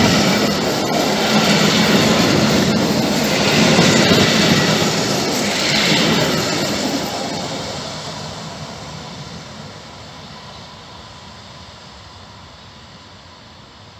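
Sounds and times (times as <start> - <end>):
electric train rolling on track: 0.0 - 13.9.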